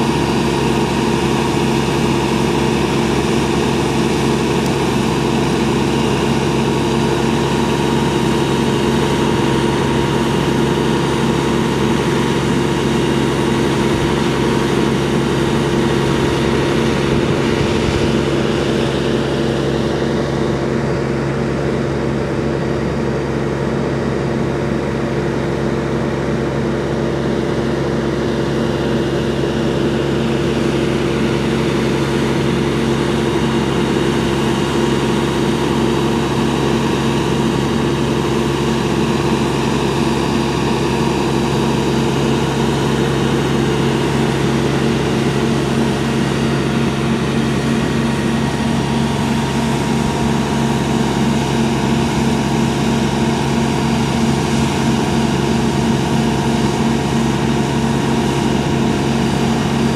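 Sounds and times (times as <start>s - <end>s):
fire engine motor droning: 0.0s - 59.9s.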